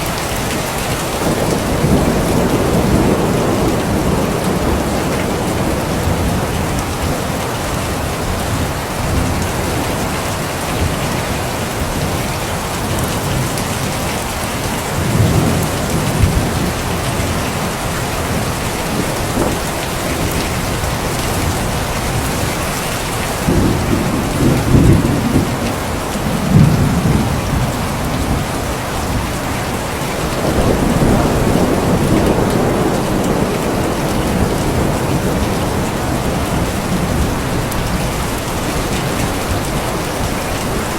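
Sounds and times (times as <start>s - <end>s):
heavy rain: 0.0s - 40.9s
thunder rolling: 0.1s - 13.8s, 14.9s - 40.9s.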